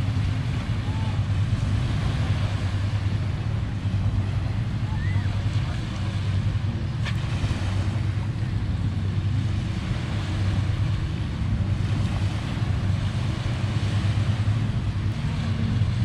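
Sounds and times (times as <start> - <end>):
waves washing on sand: 0.0 - 16.0
wind buffeting microphone: 0.0 - 16.0.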